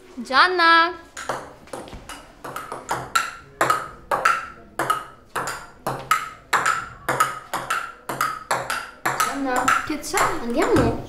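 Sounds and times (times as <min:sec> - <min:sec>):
table tennis ball hits: 0:01.1 - 0:11.0.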